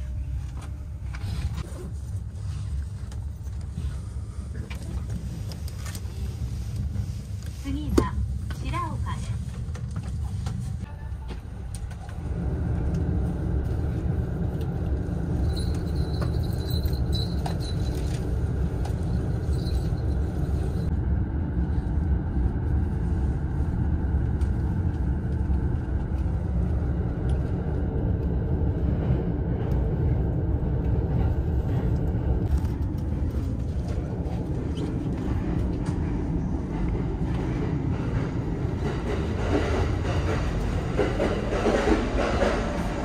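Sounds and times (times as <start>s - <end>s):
train running rumble: 0.0s - 43.0s.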